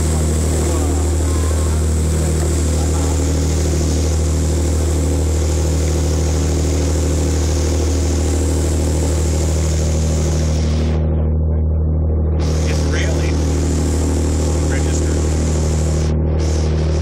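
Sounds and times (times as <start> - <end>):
steady hiss: 0.0 - 11.0, 12.4 - 17.0
ferry engine droning: 0.0 - 17.0.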